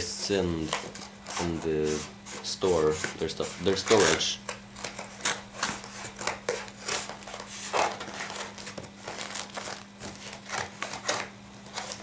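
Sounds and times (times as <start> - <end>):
scissors cutting cardboard: 0.3 - 12.0.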